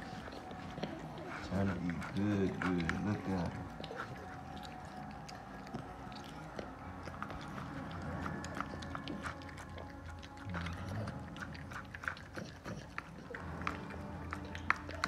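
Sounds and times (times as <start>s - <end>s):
dog chewing meat: 0.0s - 15.0s.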